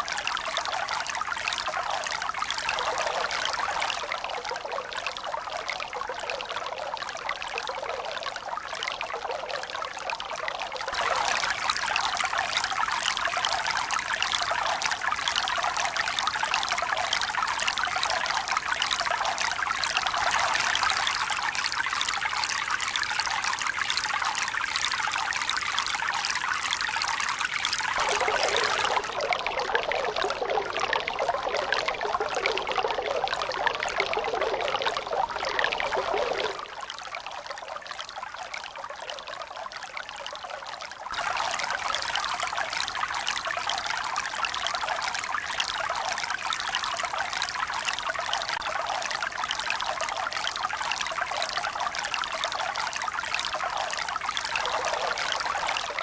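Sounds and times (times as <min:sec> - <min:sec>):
running water trickling and pouring: 0:00.0 - 0:56.0.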